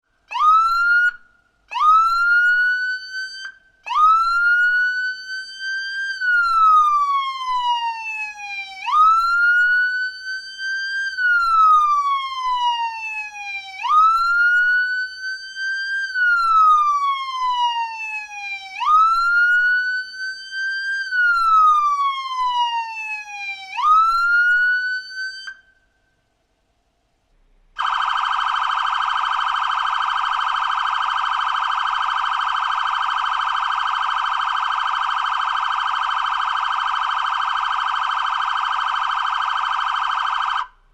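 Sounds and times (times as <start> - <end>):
police siren wailing: 0.3 - 25.8, 27.8 - 40.9.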